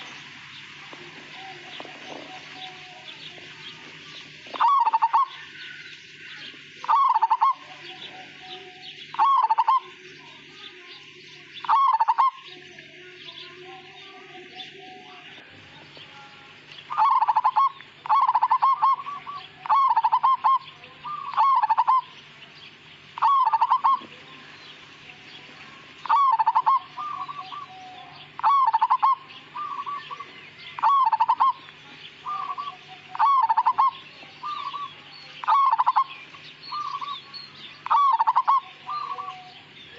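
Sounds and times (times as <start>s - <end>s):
dove cooing: 0.0s - 10.6s, 11.4s - 12.7s, 16.9s - 22.2s, 23.1s - 24.5s, 25.4s - 39.8s.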